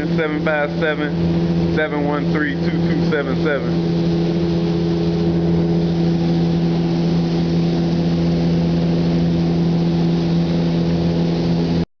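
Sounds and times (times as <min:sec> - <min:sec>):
machine hum: 0:00.0 - 0:11.8.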